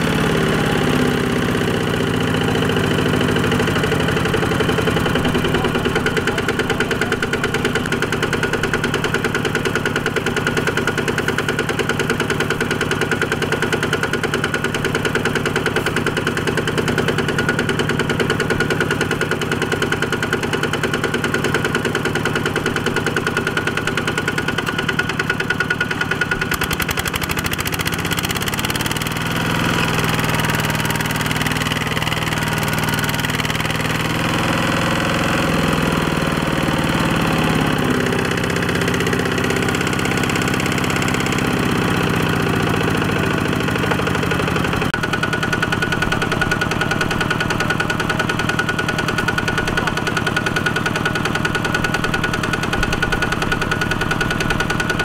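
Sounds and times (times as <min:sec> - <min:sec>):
diesel tractor engine chugging: 0:00.0 - 0:55.0.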